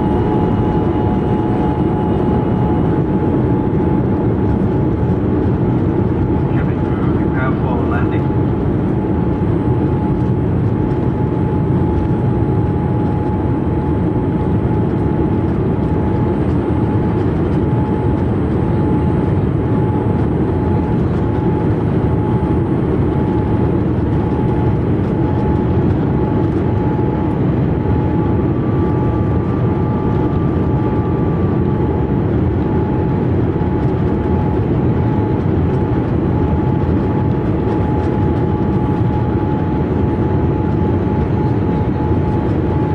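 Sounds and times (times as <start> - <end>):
airplane cabin engine rush: 0.0 - 42.9
thin steady whine: 0.0 - 42.9.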